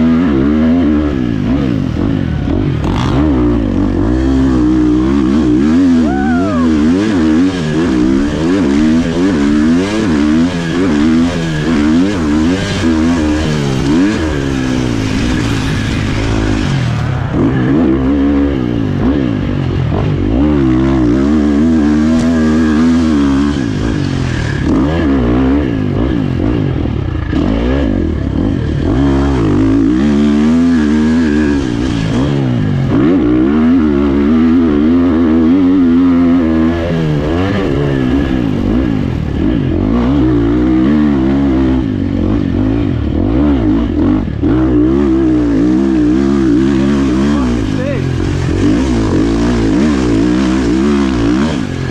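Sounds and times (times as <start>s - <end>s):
dirt bike engine revving: 0.0s - 51.9s.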